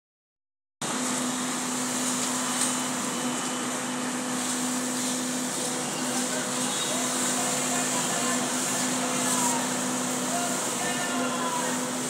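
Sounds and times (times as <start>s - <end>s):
concrete pump machine drone: 0.8s - 12.0s.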